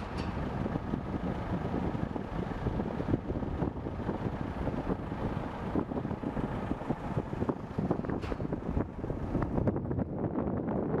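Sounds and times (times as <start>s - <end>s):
wind buffeting a microphone: 0.0s - 11.0s.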